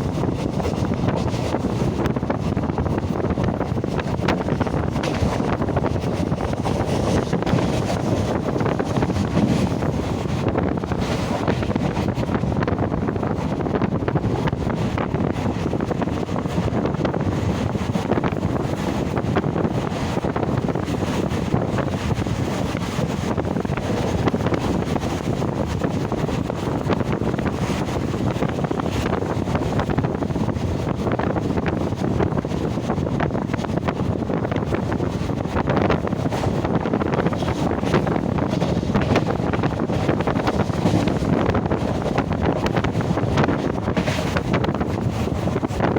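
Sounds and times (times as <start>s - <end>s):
moving train running noise: 0.0s - 45.9s
wind buffeting microphone: 0.0s - 45.9s.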